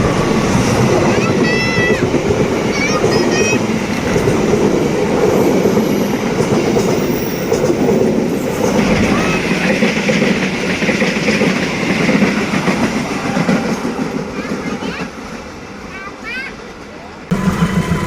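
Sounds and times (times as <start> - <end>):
train wheels clattering on rails: 0.0 - 15.5.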